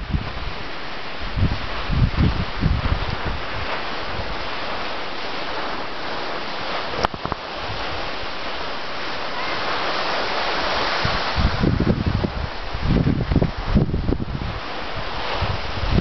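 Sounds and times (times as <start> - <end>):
skis sliding over snow: 0.0 - 16.0
wind buffeting microphone: 0.0 - 16.0.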